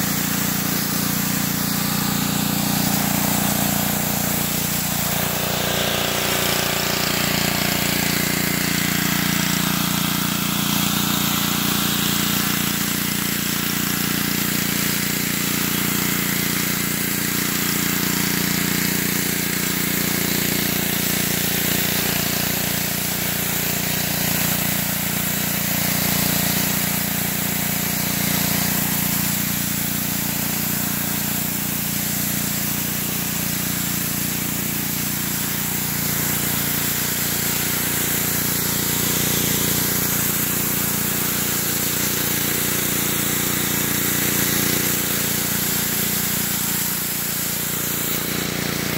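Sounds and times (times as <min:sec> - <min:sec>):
pressure washer engine drone: 0:00.0 - 0:48.9
water spray hissing: 0:00.0 - 0:48.9.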